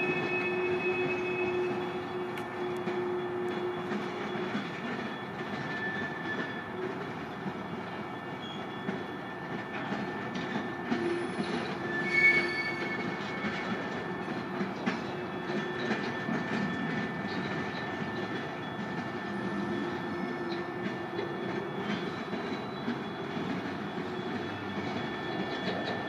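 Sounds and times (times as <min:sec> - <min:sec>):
train wheel squeals: 0:00.0 - 0:26.0
train wheels rumbling: 0:00.0 - 0:26.0.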